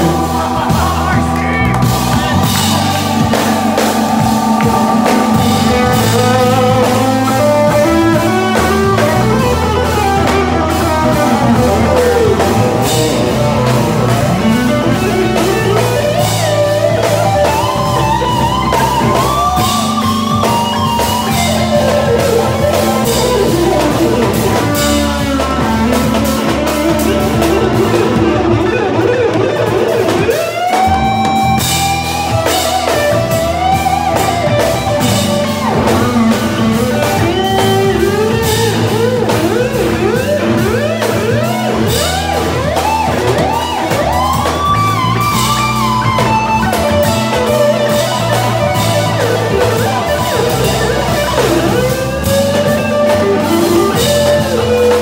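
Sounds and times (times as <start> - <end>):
drum kit: 0.0 - 55.0
electric bass: 0.0 - 55.0
electric guitar lead: 0.0 - 55.0
keyboards: 0.0 - 55.0.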